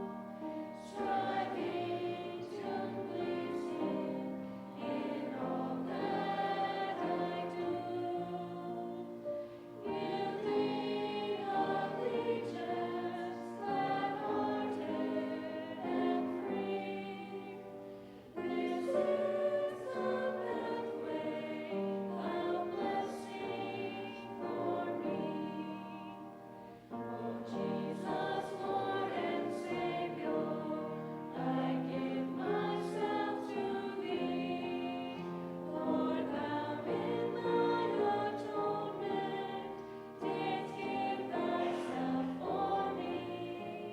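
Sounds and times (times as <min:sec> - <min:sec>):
group singing a hymn: 0:00.0 - 0:43.9.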